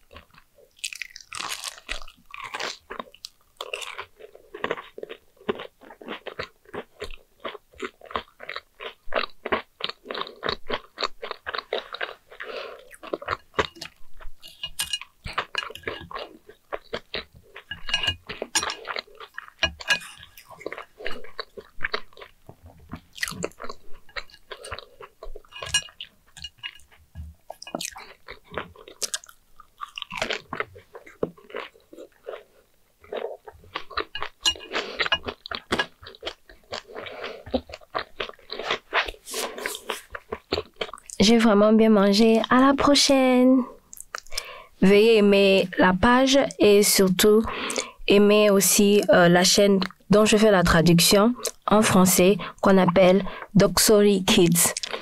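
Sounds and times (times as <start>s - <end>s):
person chewing crunchy food: 0.0s - 41.2s, 43.8s - 44.7s, 47.4s - 48.0s, 51.4s - 53.6s, 54.4s - 55.0s.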